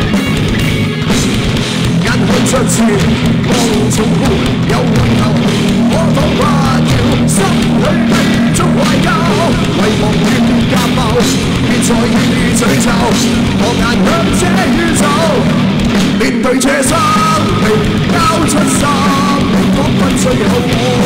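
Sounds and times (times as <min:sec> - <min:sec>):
bass guitar: 0:00.0 - 0:21.0
distorted electric guitars: 0:00.0 - 0:21.0
drum kit with cymbal crashes: 0:00.0 - 0:21.0.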